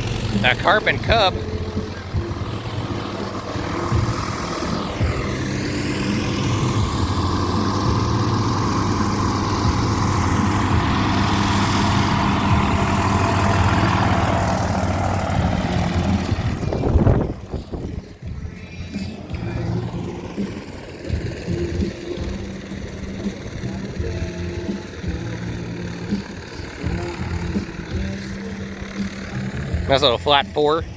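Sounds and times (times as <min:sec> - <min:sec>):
propeller airplane engine running: 0:00.0 - 0:30.9.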